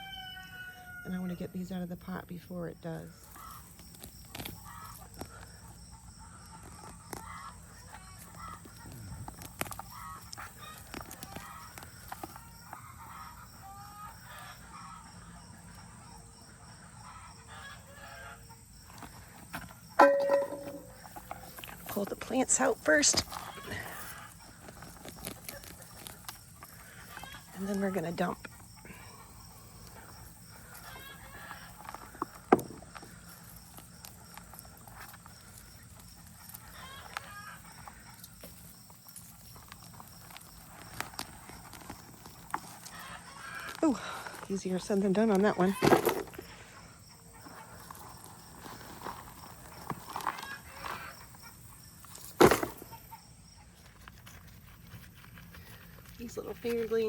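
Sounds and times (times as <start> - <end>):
chickens calling and crowing: 0.0 - 1.6, 2.9 - 53.7
dry stems and soil rustling: 1.0 - 14.5, 18.8 - 57.0.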